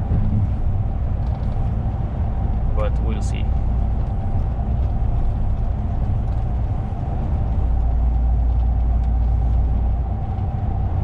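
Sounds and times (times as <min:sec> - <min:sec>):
lorry engine rumble: 0:00.0 - 0:11.0.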